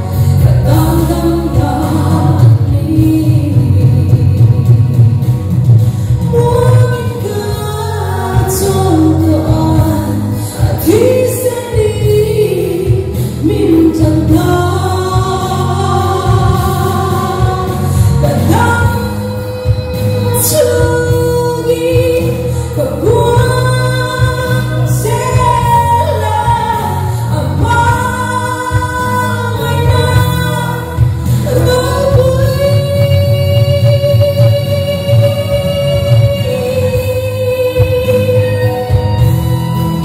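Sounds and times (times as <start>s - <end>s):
woman singing gospel: 0.0s - 5.4s, 6.2s - 39.3s
instrumental accompaniment: 0.0s - 40.0s.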